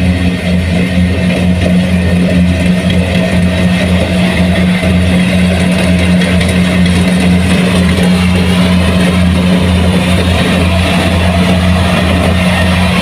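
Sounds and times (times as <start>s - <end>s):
combine harvester engine droning: 0.0s - 13.0s.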